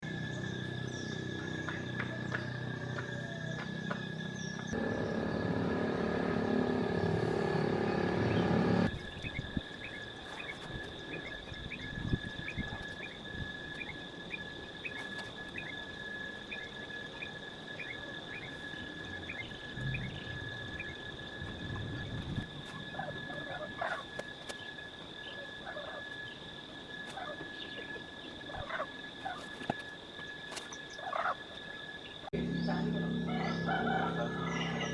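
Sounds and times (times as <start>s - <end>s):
high-pitched insect drone: 0.0s - 34.9s.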